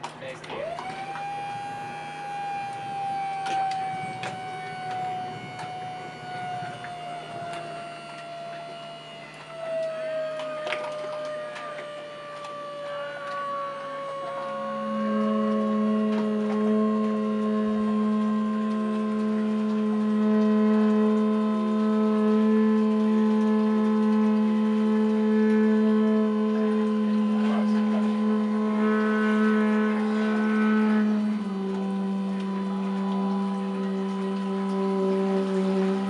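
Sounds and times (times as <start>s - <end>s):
sustained synthesizer chords: 0.0s - 36.0s
short higher synth notes: 0.5s - 36.0s.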